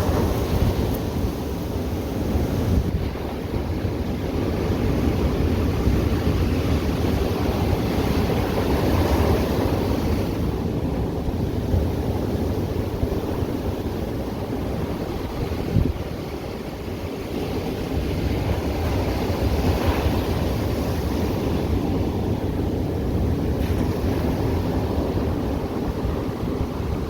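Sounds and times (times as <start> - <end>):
ocean surf breaking: 0.0 - 27.0
wind on microphone: 0.0 - 27.0.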